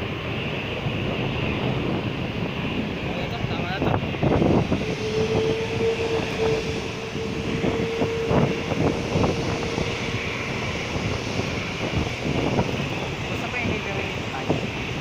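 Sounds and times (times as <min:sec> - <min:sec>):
distant jet engines droning: 0:00.0 - 0:15.0
wind buffeting microphone: 0:00.0 - 0:15.0.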